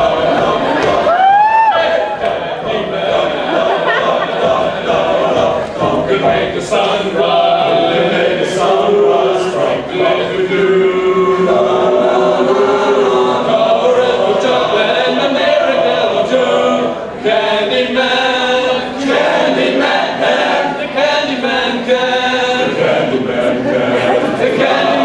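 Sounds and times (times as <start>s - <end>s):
group of voices singing: 0.0s - 25.0s.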